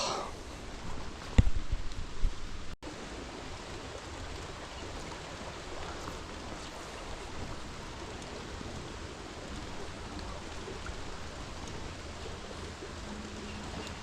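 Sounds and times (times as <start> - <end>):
steady rain: 0.0 - 14.0
stream water flowing: 0.0 - 14.0.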